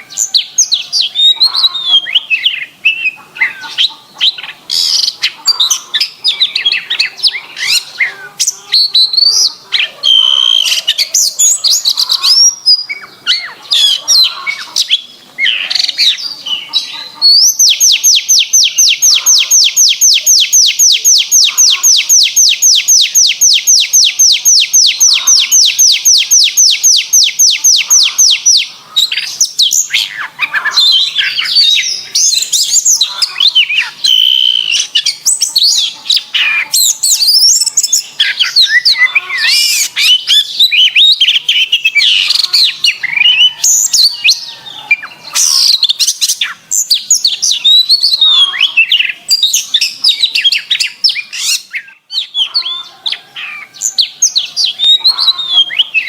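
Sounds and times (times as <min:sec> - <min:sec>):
canary warbling: 0:00.0 - 0:46.6, 0:47.2 - 0:56.0
canary trill: 0:00.0 - 0:56.0.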